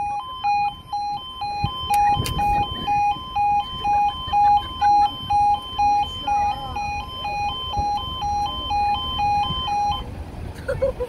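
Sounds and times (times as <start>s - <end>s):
level crossing warning tones: 0.0s - 10.2s.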